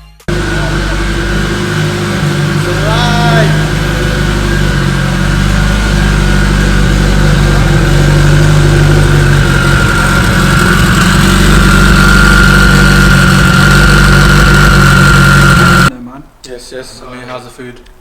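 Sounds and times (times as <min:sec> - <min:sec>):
high turbo whine: 0:00.1 - 0:15.9
car engine running at steady revs: 0:00.3 - 0:15.9.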